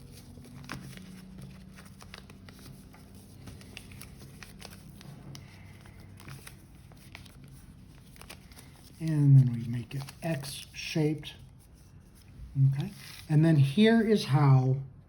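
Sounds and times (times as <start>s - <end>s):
paper crinkling: 0.0s - 13.7s
low steady hum: 0.0s - 15.0s.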